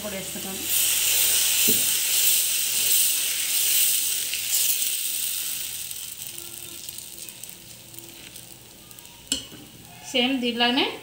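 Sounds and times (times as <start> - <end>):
batter sizzling on a hot griddle: 0.0 - 11.0.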